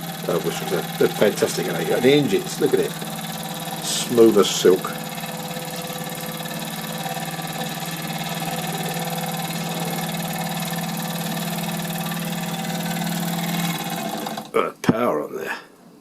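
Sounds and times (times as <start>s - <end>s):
toy steam engine whirring: 0.0s - 14.5s.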